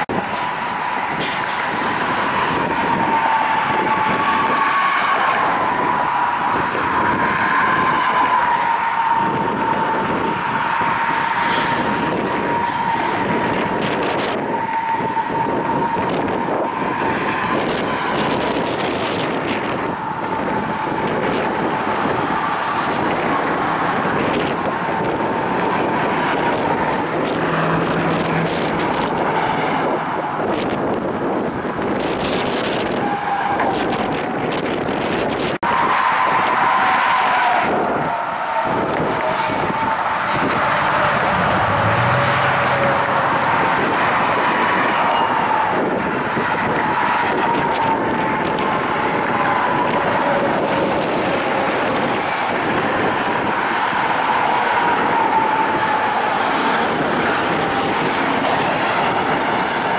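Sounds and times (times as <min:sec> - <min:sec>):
train wheels rumbling on rail: 0:00.0 - 0:59.9
wheels squealing against rail: 0:00.0 - 0:59.9.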